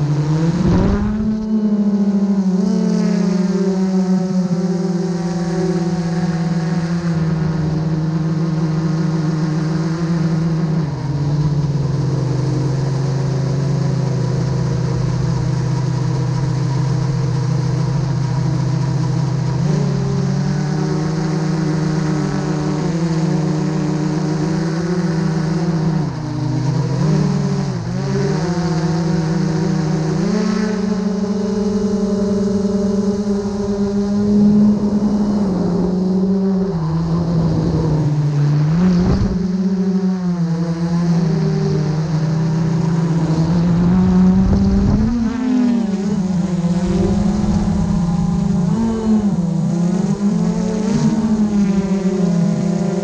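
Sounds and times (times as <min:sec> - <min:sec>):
drone propellers whining: 0:00.0 - 0:53.0.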